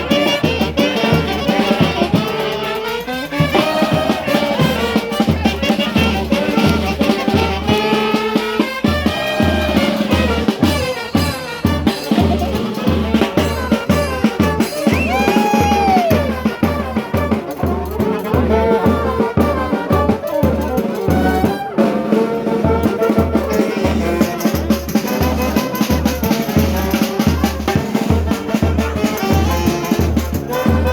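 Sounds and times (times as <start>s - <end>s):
brass band playing: 0.0s - 30.9s
driving drum beat: 0.0s - 30.9s.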